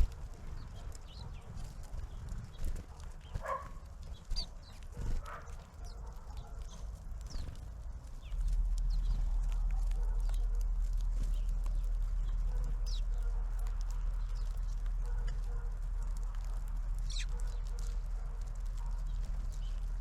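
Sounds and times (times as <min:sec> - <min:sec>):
light ticks: 0:00.0 - 0:20.0
small birds calling: 0:00.0 - 0:20.0
steady low rumble: 0:00.0 - 0:20.0.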